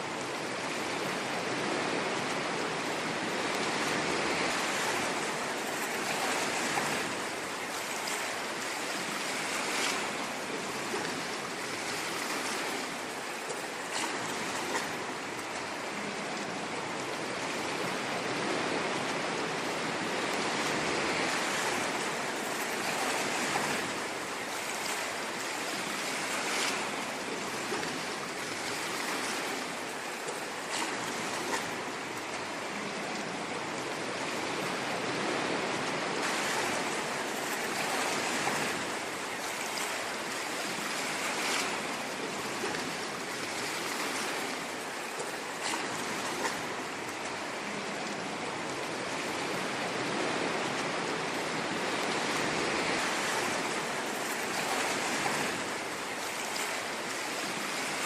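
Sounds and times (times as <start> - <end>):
ocean waves washing on shore: 0.0 - 58.0
water crackles: 0.0 - 58.0.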